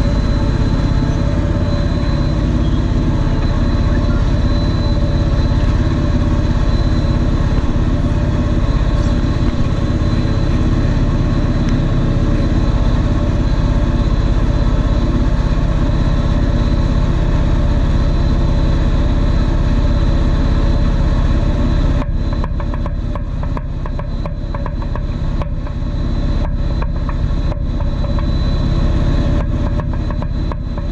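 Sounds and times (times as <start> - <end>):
quadcopter motors buzzing: 0.0 - 30.9.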